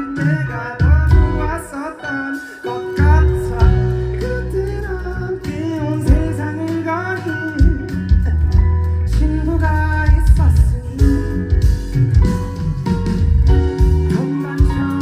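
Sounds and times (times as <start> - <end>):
steady drum beat: 0.0 - 1.6, 3.0 - 15.0
man singing: 0.0 - 11.9, 13.7 - 15.0
bass: 0.0 - 15.0
guitar: 0.0 - 15.0.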